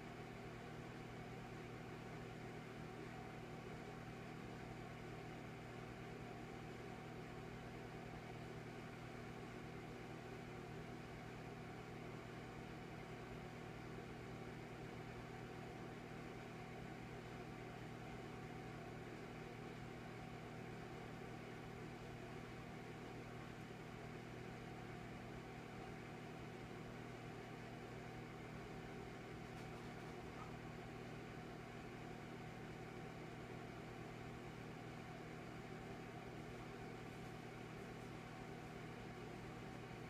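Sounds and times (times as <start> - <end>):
electric fireplace hum: 0.0 - 40.0.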